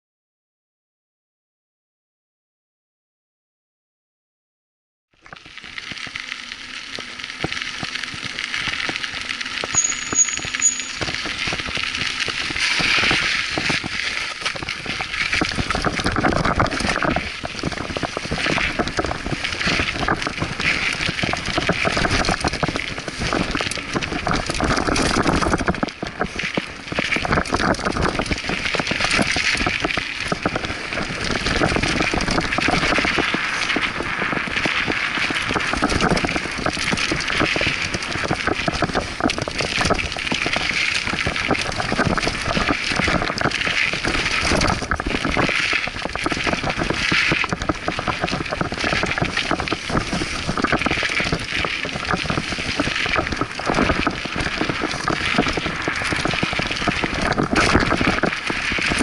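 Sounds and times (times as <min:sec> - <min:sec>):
bike rattling over bumps: 0:05.4 - 0:59.0
wind on microphone: 0:09.8 - 0:59.0.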